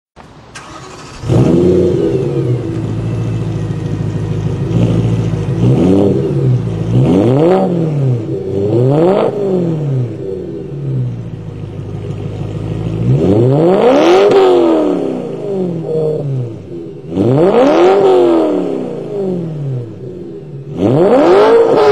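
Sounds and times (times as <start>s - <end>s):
car engine starting and revving: 0.4s - 21.9s.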